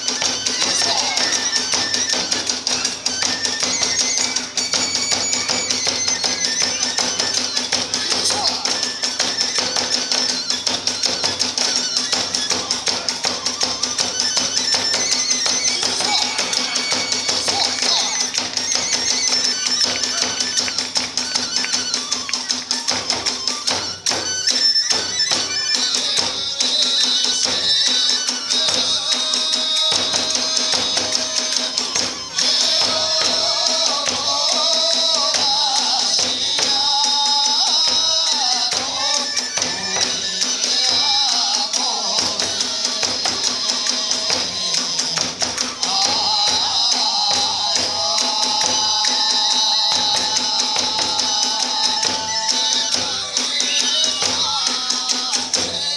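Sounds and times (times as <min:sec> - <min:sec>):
bamboo flute melody: 0:00.0 - 0:55.9
drums beating fast rhythm: 0:00.0 - 0:55.9.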